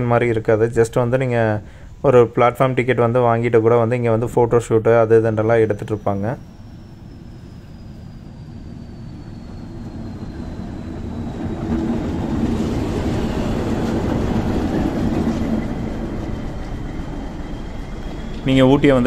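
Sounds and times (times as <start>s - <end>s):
train running by: 0.0s - 19.0s.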